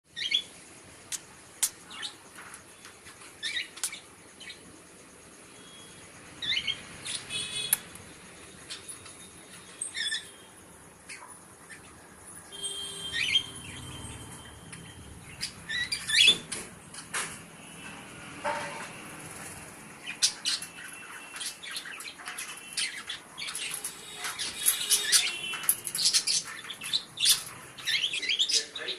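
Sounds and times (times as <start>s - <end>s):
small birds chirping: 0.1s - 18.3s, 19.0s - 28.9s.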